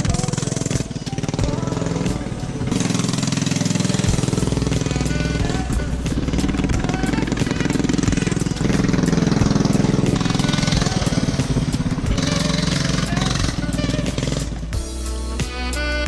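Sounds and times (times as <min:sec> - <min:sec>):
small four-stroke engine running: 0:00.0 - 0:14.8.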